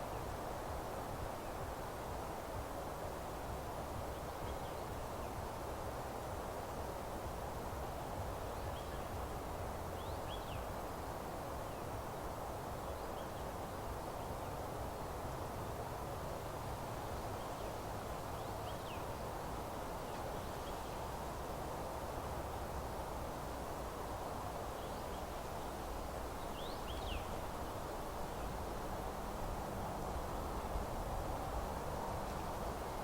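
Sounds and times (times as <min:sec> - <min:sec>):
wind rustling leaves: 0:00.0 - 0:33.0.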